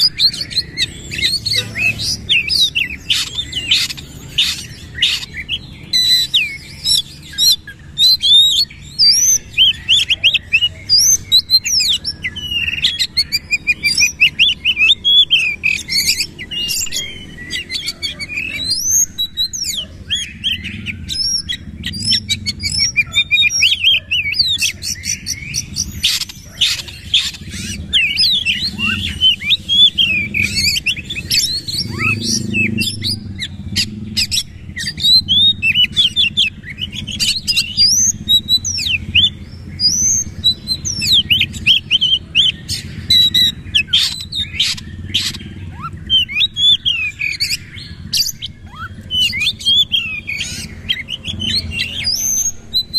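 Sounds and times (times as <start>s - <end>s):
songbird singing: 0.0s - 52.9s.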